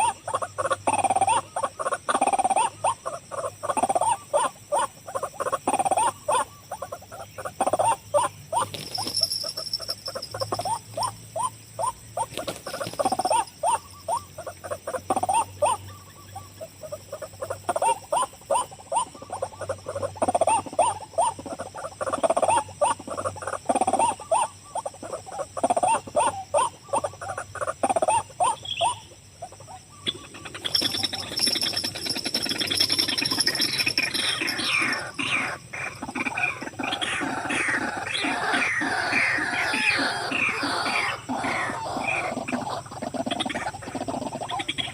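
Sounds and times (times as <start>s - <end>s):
waterhen croaking calls: 0.0s - 44.9s.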